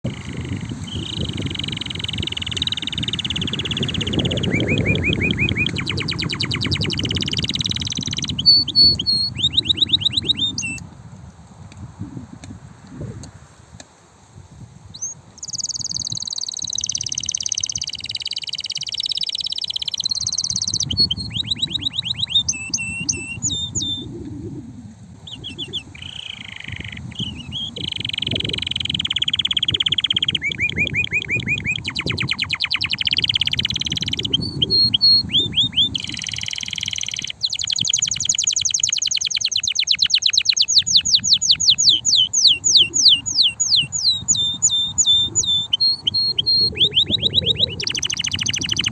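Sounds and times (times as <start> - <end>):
canary singing trills: 0.0 - 10.8, 14.9 - 48.9.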